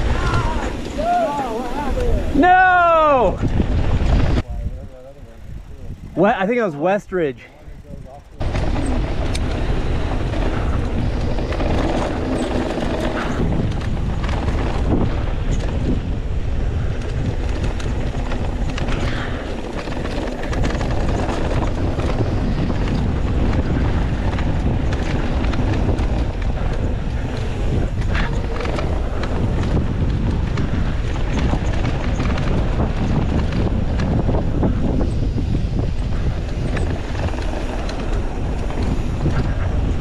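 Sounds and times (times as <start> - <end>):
wind buffeting microphone: 0.0 - 6.4, 7.3 - 40.0
tyres rushing on loose dirt: 0.0 - 6.9, 7.7 - 40.0
bike clicks and rattles: 0.0 - 40.0.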